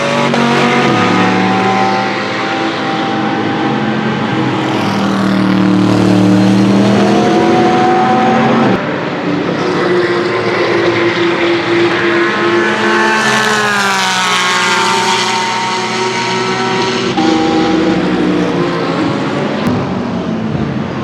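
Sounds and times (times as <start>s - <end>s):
racing car engines: 0.0s - 21.0s
racing car passing by: 0.0s - 21.0s.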